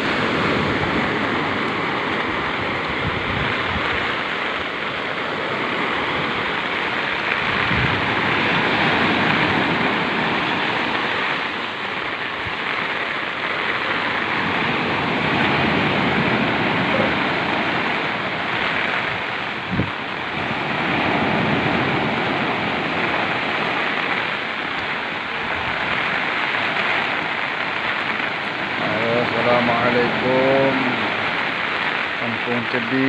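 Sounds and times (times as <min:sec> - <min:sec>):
storm surf breaking on shore: 0:00.0 - 0:33.0
storm wind: 0:00.0 - 0:33.0.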